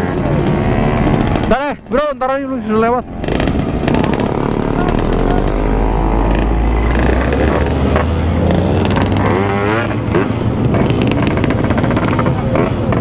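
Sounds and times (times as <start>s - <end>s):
two-stroke motorcycle engines revving: 0.0s - 13.0s.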